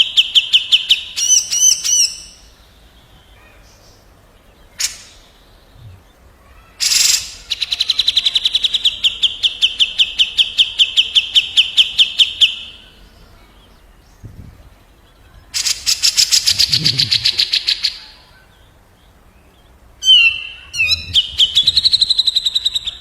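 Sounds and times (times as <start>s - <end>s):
songbird trilling: 0.0s - 23.0s.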